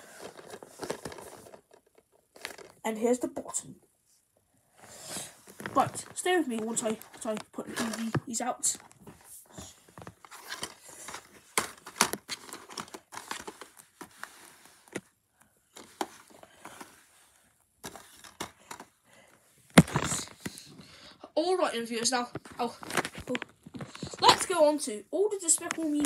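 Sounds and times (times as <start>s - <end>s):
plastic cases rustling and scraping: 0.0s - 2.8s, 4.8s - 20.9s, 21.8s - 26.0s.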